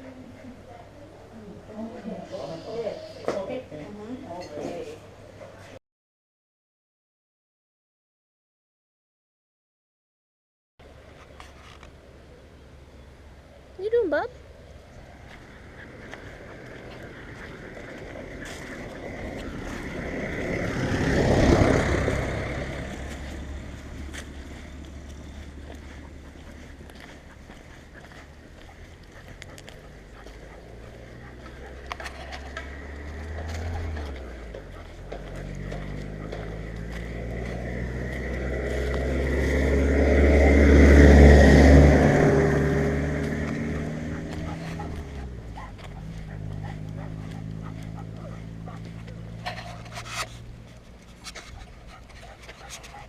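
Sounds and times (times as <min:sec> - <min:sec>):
vehicle engine passing by: 0:00.0 - 0:05.8, 0:10.8 - 0:53.0.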